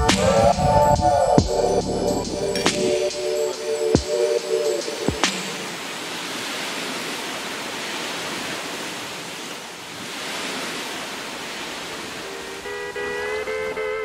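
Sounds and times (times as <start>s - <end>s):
rushing water: 2.3s - 14.0s.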